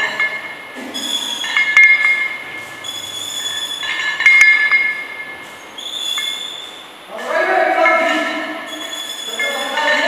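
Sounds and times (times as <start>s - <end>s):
high metallic squeal: 0.0s - 10.0s
weight plates clinking: 0.0s - 10.0s.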